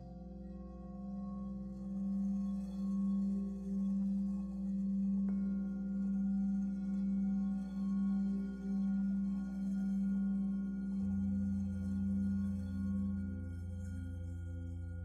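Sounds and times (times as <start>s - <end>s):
ambient meditation drone music: 0.0s - 15.0s.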